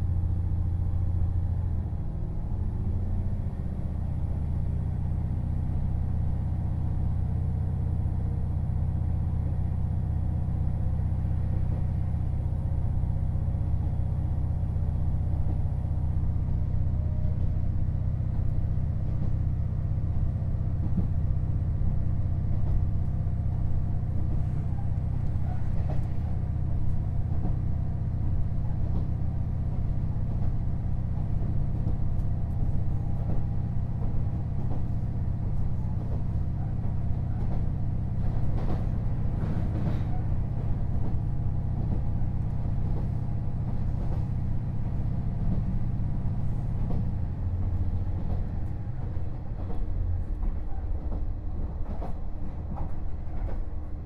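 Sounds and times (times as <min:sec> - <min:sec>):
diesel railcar drone: 0:00.0 - 0:54.0.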